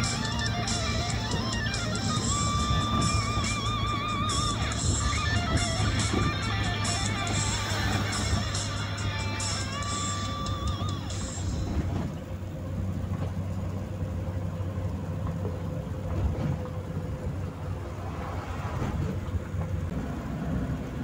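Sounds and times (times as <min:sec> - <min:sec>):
car engine and tyre hum: 0:00.0 - 0:21.0.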